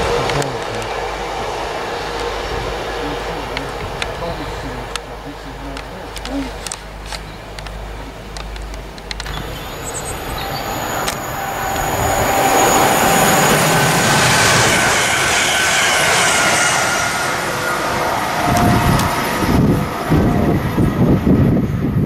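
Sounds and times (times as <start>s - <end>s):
steady tones: 0.0s - 22.0s
wheels rushing on rail: 0.0s - 22.0s
wind buffeting microphone: 0.0s - 22.0s.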